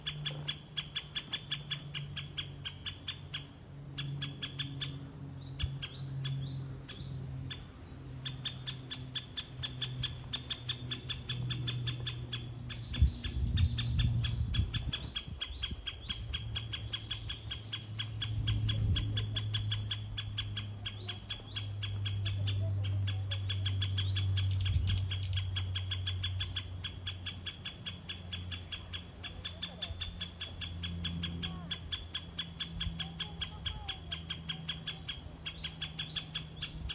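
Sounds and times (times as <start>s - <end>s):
woodpecker calling rapid sharp notes: 6.8s - 36.9s.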